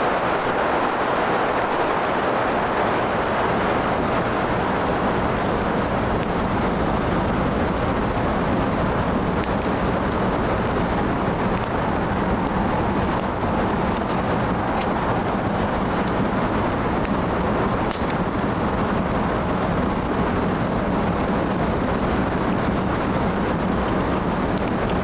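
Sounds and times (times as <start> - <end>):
steady rushing noise: 0.0 - 25.0
firewood crackling and popping: 0.4 - 25.0.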